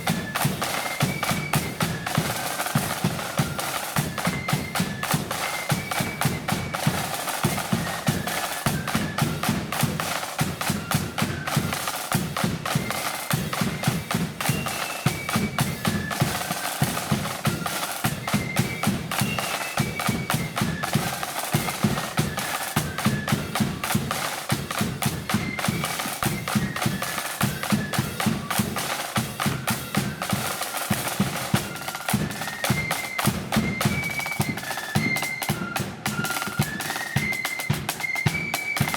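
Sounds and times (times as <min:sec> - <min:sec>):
flutes playing melody: 0:00.0 - 0:38.9
rapid snare drumming: 0:00.0 - 0:38.9.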